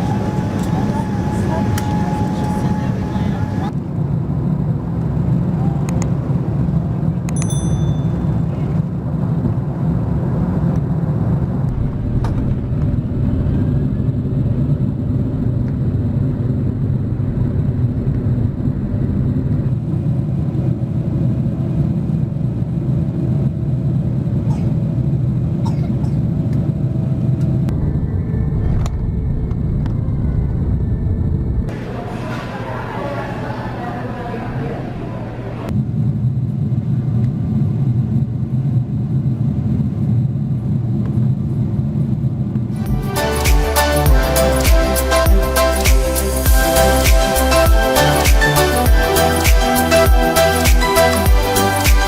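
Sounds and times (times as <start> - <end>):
jet engines and airflow rumble: 0.0 - 52.0.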